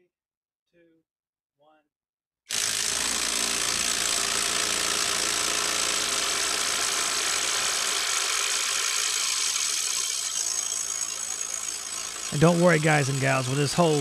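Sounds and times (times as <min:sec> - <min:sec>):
impact driver rattling buzz: 0:02.5 - 0:14.0.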